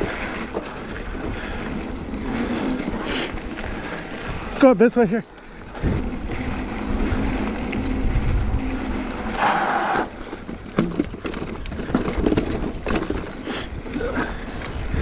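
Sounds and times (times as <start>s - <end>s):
tyres crunching over dirt and rocks: 0.0s - 8.1s, 9.0s - 15.0s
bike rattling and knocking: 0.0s - 15.0s
wind buffeting microphone: 0.0s - 15.0s.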